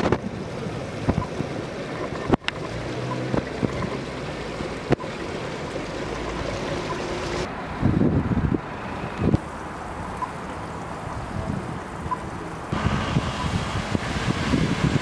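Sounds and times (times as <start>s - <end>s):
water rushing into storm drain: 0.0s - 15.0s.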